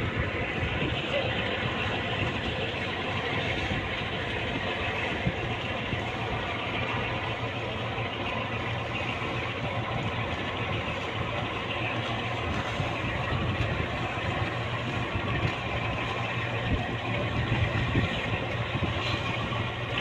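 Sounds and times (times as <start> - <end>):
diesel boat engine running: 0.0 - 20.0.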